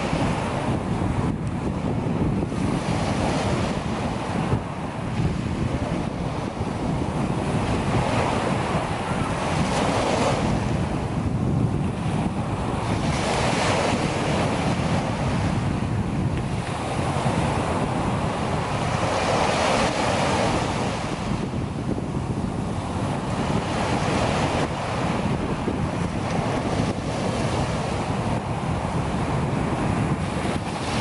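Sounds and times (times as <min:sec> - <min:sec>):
waves washing up shore: 0:00.0 - 0:31.0
wind buffeting microphone: 0:00.0 - 0:31.0.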